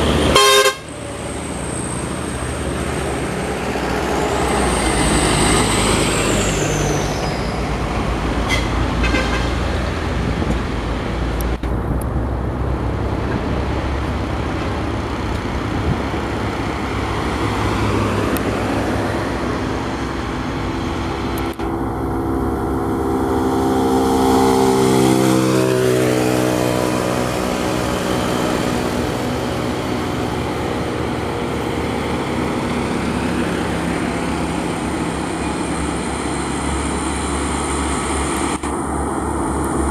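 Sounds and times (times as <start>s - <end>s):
heavy diesel trucks climbing: 0.0s - 39.9s
road traffic passing: 0.0s - 39.9s.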